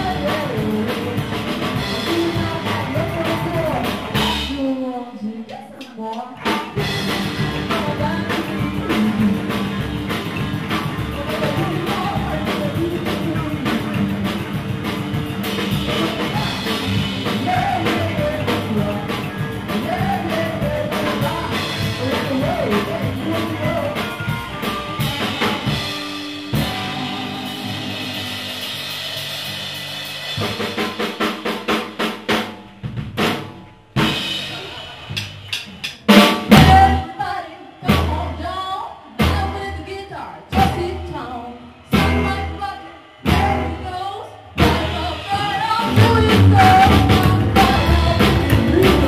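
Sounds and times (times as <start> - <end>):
rockabilly band playing: 0.0 - 4.8, 5.9 - 49.0
woman singing: 0.0 - 10.2, 10.8 - 28.6, 36.4 - 49.0.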